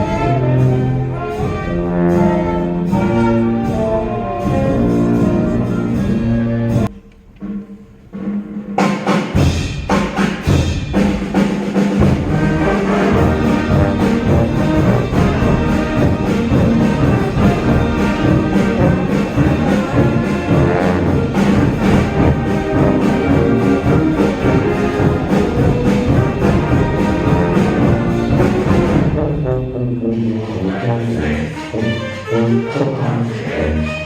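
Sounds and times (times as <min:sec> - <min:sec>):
concert band playing: 0:00.0 - 0:34.0.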